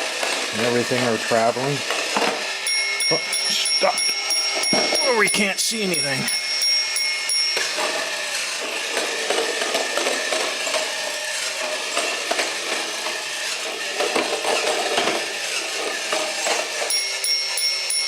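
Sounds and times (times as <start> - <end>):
toy robot motor whirring: 0.0 - 18.0.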